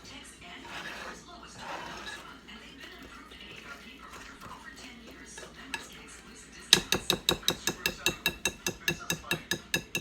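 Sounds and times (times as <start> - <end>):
whisk beating in mixing bowl: 0.6 - 10.0.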